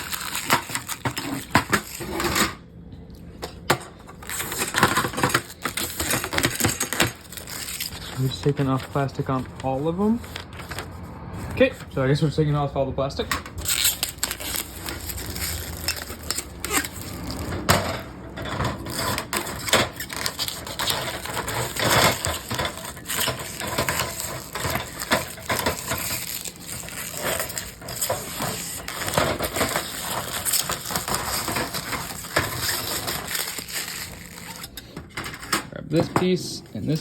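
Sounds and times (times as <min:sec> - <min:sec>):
plastic film peeling and crinkling: 0:00.0 - 0:02.4, 0:04.1 - 0:11.0, 0:13.6 - 0:34.8.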